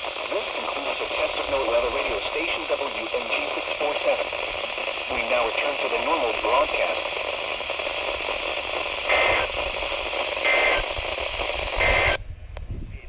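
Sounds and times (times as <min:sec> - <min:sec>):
two-tone data bursts: 0:00.0 - 0:12.2
radio static hiss: 0:00.0 - 0:13.0.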